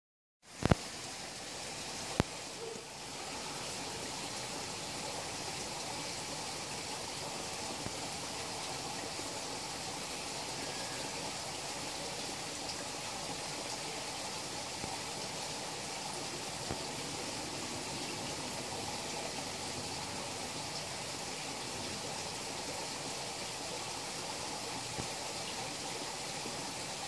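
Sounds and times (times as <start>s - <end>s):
running water in a pond: 0.4s - 27.0s.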